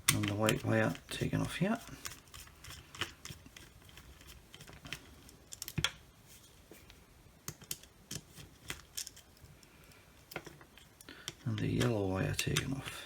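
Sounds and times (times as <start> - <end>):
small parts clicking and tapping: 0.0 - 6.0, 7.4 - 12.8.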